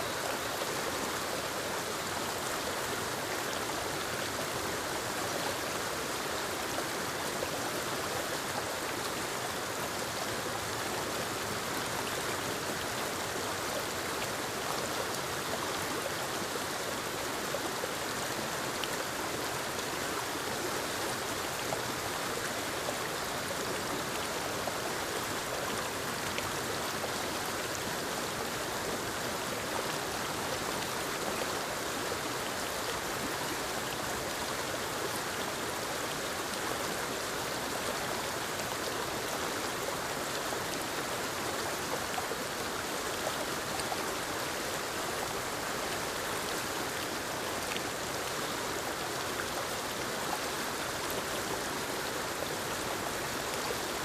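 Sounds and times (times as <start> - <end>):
waterfall cascading over rocks: 0.0 - 54.0.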